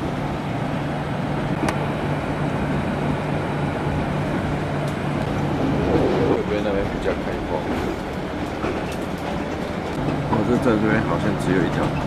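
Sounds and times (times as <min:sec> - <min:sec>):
train engine hum and running noise: 0:00.0 - 0:12.0.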